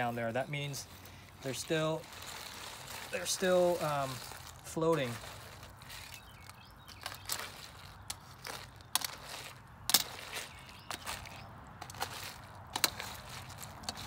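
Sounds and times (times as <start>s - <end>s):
crawfish shells clattering in pot: 1.4s - 14.0s.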